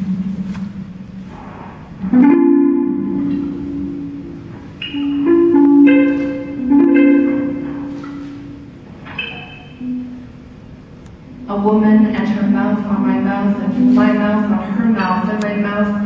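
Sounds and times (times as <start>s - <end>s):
electric guitar notes ringing: 0.0s - 16.0s.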